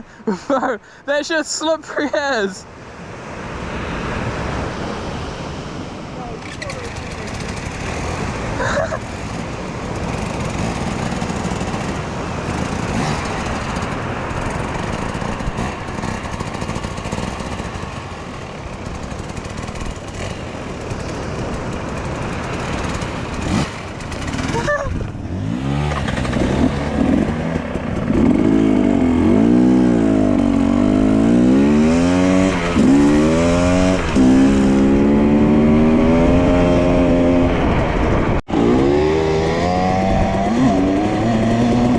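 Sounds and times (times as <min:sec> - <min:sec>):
dirt bike engine revving: 0:06.4 - 0:41.9.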